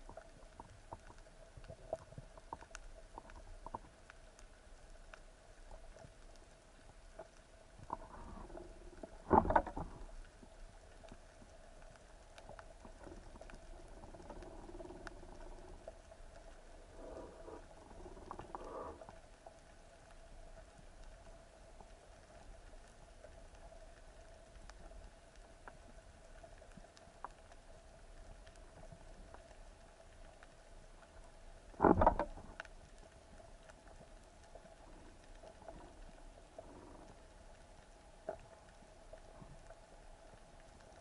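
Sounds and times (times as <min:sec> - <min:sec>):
crackling clicks underwater: 0:00.0 - 0:41.0
faint steady hum: 0:00.0 - 0:41.0.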